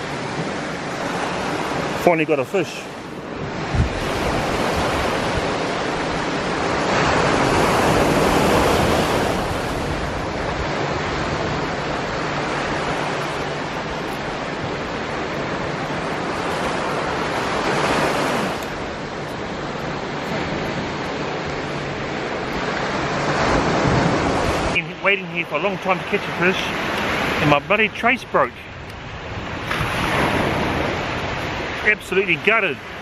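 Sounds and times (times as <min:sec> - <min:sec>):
surf breaking on beach: 0:00.0 - 0:33.0.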